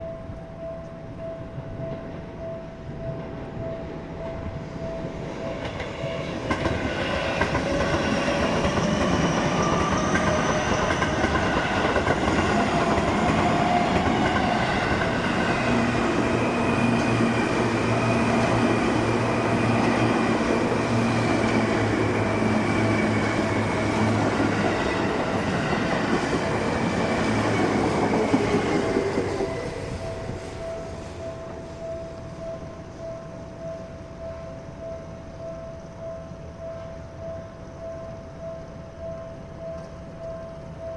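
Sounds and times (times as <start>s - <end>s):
electric train passing: 0.0s - 40.9s
level-crossing bell dinging: 0.0s - 40.9s.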